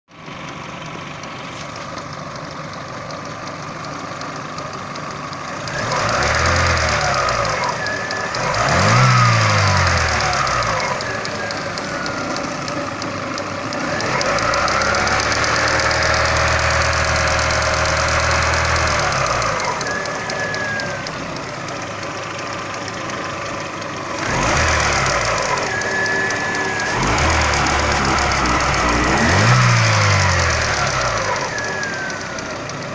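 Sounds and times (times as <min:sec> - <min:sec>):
car engine running: 0:00.1 - 0:32.9.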